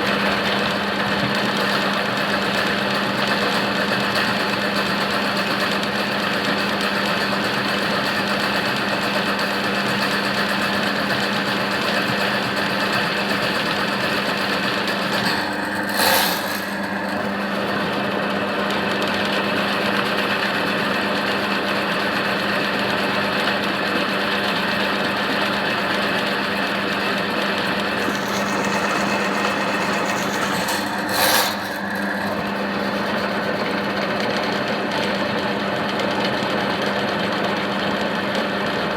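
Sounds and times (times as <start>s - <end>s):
drain cleaning machine humming: 0.0s - 36.4s.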